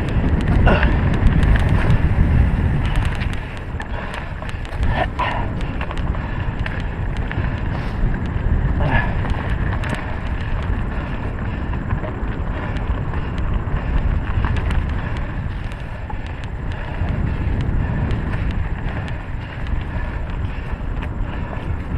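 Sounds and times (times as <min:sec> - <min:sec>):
bike clicks and rattles: 0:00.0 - 0:21.9
bike tyres rolling on dirt: 0:00.0 - 0:21.9
wind buffeting microphone: 0:00.0 - 0:21.9.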